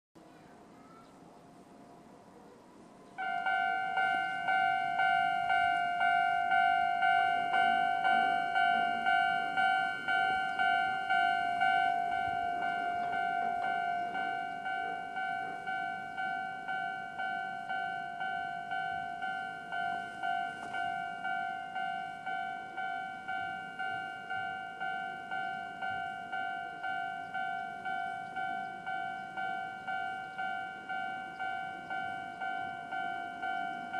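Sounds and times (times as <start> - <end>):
level crossing bell alarm: 3.2 - 33.9.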